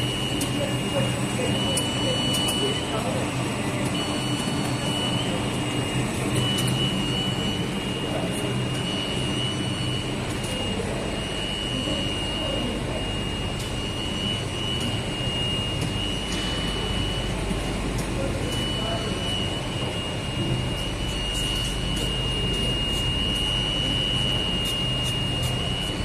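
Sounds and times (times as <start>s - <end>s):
high-pitched machine whine: 0.0s - 26.0s
machine hum and whir: 0.0s - 26.0s.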